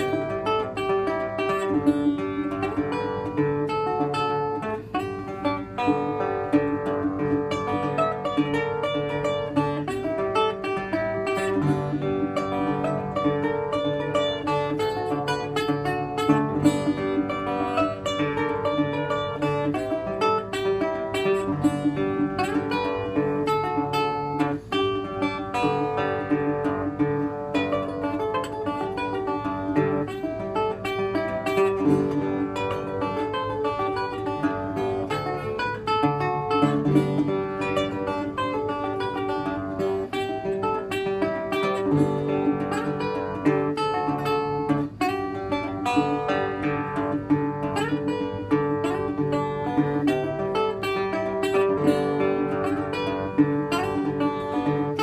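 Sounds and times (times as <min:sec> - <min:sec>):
fingerpicked resonator guitar: 0:00.0 - 0:55.0.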